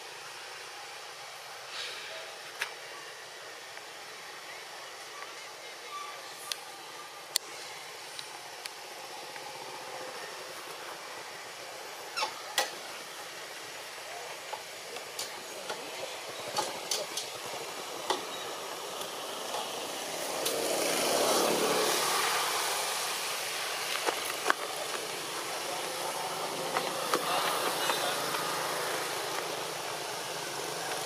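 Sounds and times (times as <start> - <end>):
broad swell of noise: 0.0 - 31.0
steady hiss: 0.0 - 31.0.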